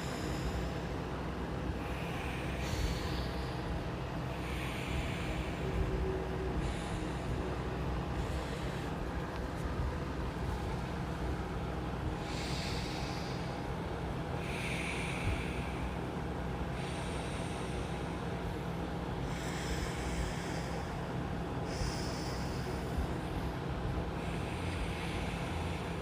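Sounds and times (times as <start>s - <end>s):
steady low hum: 0.0s - 26.0s
hissing nose breaths: 1.7s - 16.0s, 16.7s - 26.0s.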